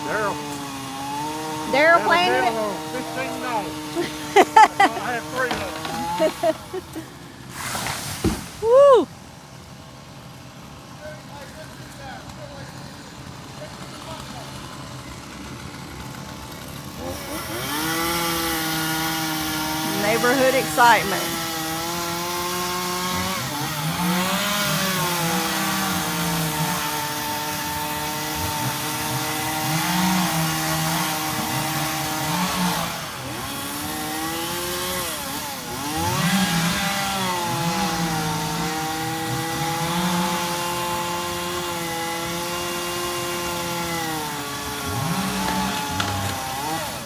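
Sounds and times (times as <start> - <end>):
chainsaw cutting wood: 0.0 - 8.7, 9.6 - 47.0.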